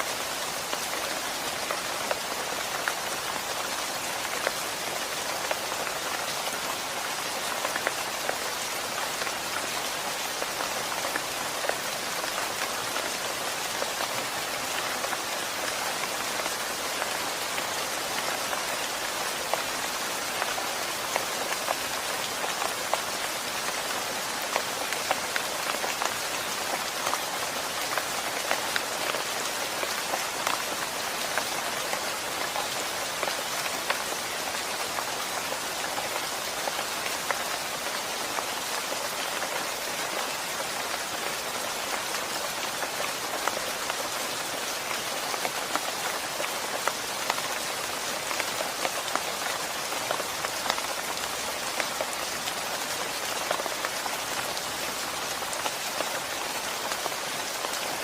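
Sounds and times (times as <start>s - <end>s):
steady rainfall ticking: 0.0s - 58.0s.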